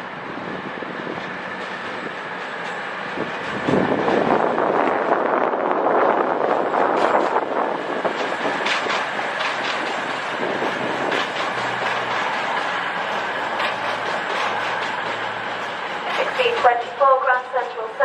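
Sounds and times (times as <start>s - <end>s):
train rumbling: 0.0s - 18.0s
wheels clicking on track: 0.3s - 17.9s.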